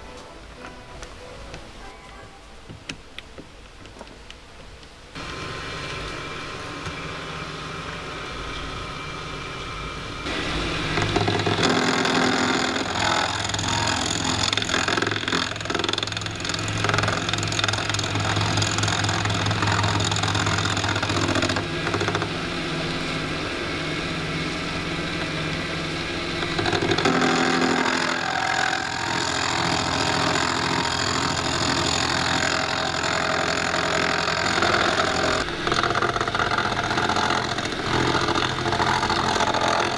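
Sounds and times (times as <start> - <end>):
lathe motor running: 5.2 - 39.9.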